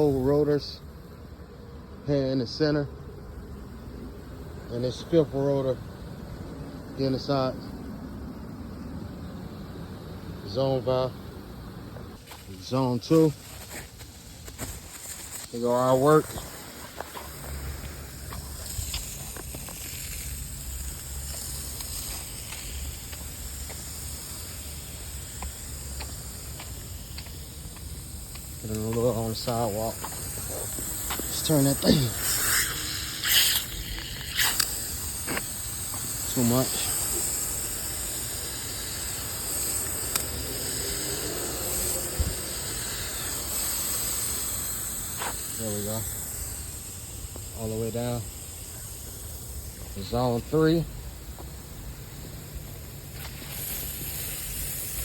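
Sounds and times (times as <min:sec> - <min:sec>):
lawn sprinklers spraying water: 0:00.0 - 0:01.1, 0:04.6 - 0:05.8, 0:06.9 - 0:07.6, 0:12.1 - 0:55.0.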